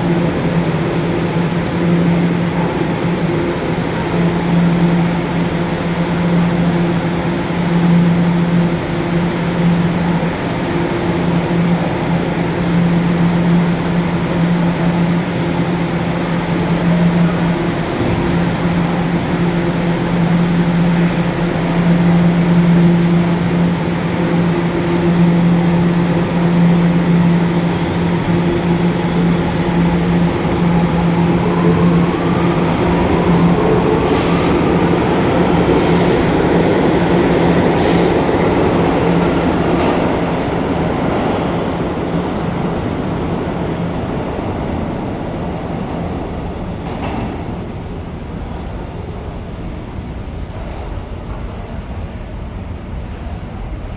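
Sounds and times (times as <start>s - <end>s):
subway train motor whine: 0.0s - 53.9s
train hum: 0.0s - 53.9s.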